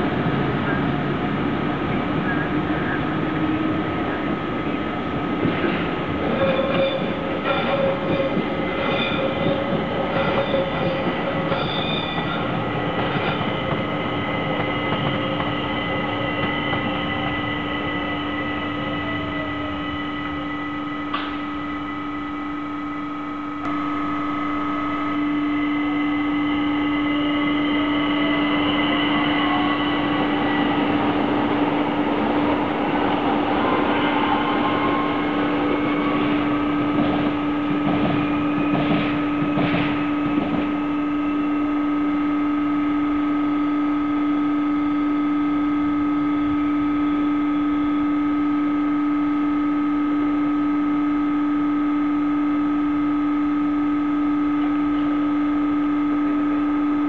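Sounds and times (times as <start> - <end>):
electric train drive whining: 0.0 - 50.6
electric locomotive whining: 0.0 - 57.0.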